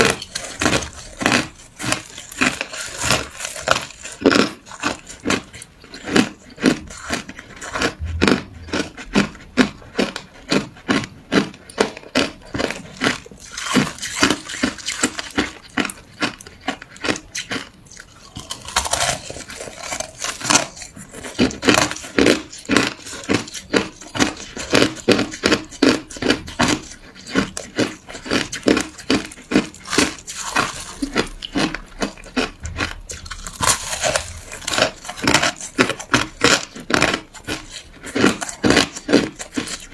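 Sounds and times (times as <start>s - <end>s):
ice crunched between teeth: 0.0s - 39.9s.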